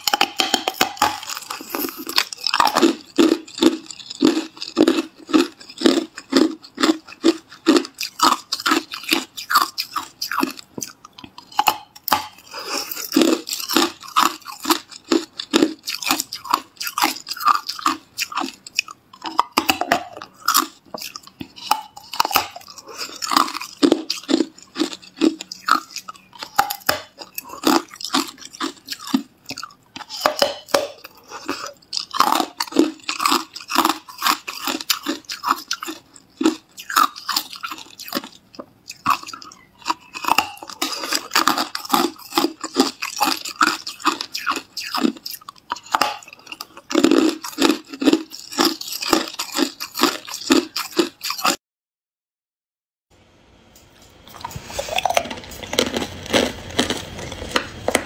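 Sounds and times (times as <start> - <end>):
chewing ice crunches: 0.0 - 51.6, 54.3 - 58.0.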